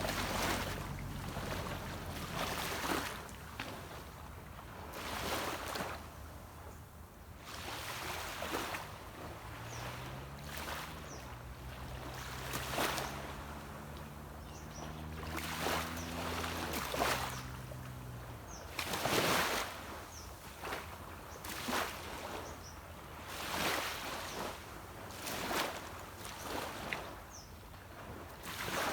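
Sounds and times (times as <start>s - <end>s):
distant boat engine hum: 0.0s - 28.9s
small waves washing onto beach: 0.0s - 28.9s.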